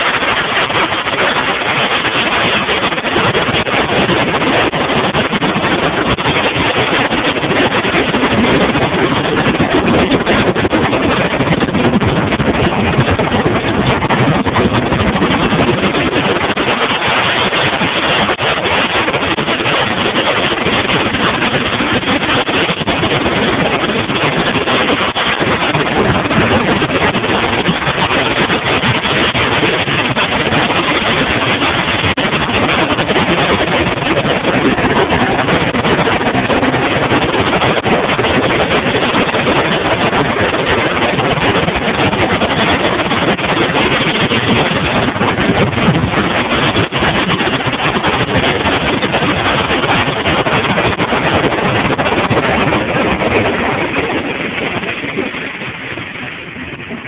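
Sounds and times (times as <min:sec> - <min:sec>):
motorboat engine running: 0:00.0 - 0:57.0
water rushing against hull: 0:00.0 - 0:57.0
wind on microphone: 0:00.0 - 0:57.0.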